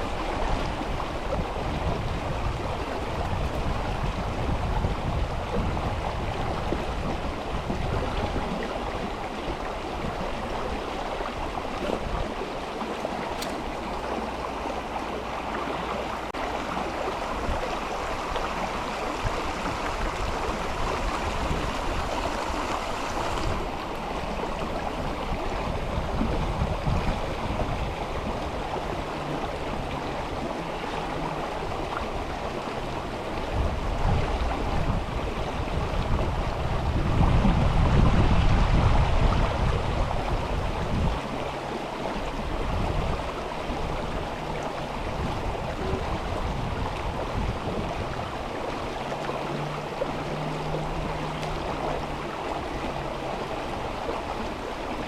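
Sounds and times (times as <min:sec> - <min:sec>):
river water rushing over stones: 0:00.0 - 0:55.0.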